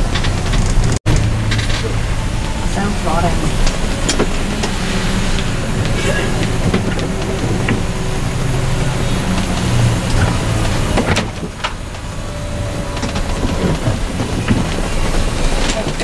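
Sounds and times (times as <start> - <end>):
coach engine drone: 0.0 - 16.0
rain on vehicle: 0.0 - 16.0
tyres hissing on wet road: 0.0 - 16.0.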